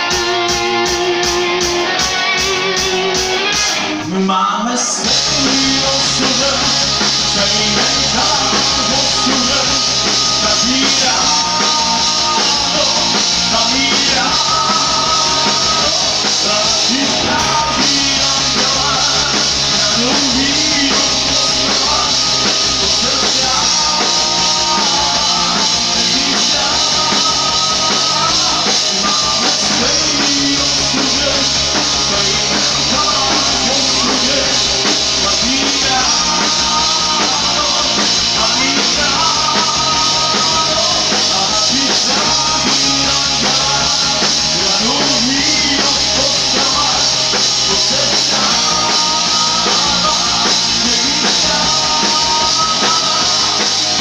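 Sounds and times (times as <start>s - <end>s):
drum kit: 0.0s - 54.0s
electric guitars: 0.0s - 54.0s.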